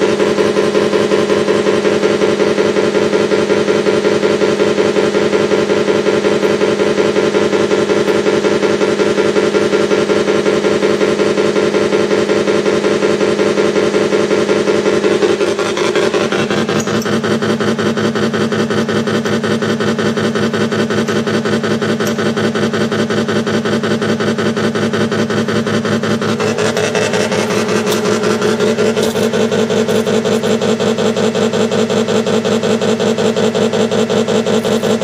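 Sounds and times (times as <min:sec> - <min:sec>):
simulated tank engine throbbing: 0:00.0 - 0:35.0.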